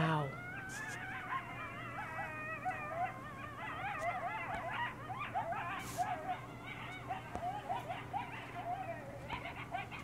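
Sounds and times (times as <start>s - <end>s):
wild canids howling and yipping: 0.0s - 10.0s.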